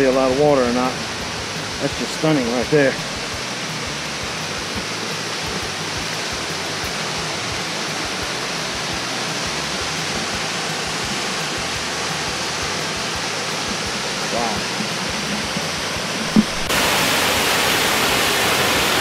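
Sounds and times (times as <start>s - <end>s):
waterfall rushing into pool: 0.0s - 19.0s.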